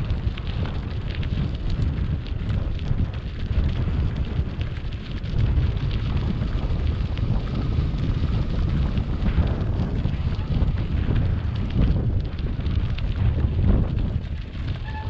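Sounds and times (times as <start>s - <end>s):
bike tyres crunching on gravel: 0.0s - 15.0s
wind buffeting microphone: 0.0s - 15.0s.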